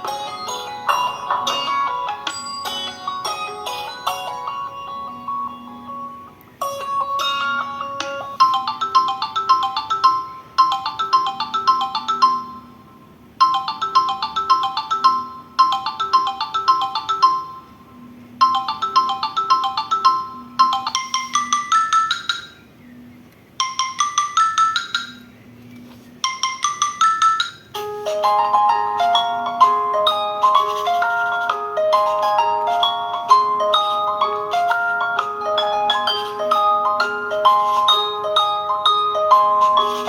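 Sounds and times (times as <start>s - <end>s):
marimba ringtone melody: 0.0s - 22.7s, 23.6s - 25.4s, 26.2s - 40.0s.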